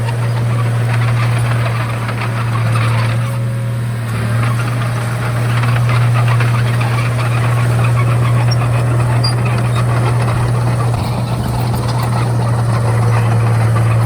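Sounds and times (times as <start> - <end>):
bulldozer diesel engine running: 0.0 - 14.0
rapid rattling clatter: 0.0 - 14.0.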